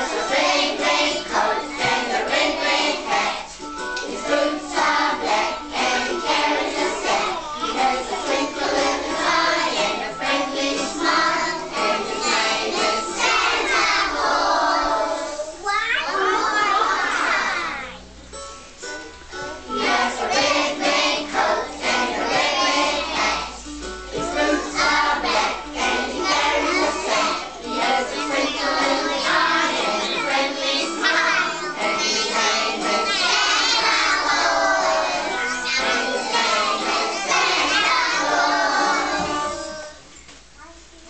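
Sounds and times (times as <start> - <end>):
young children singing: 0.0 - 18.1, 19.1 - 40.9.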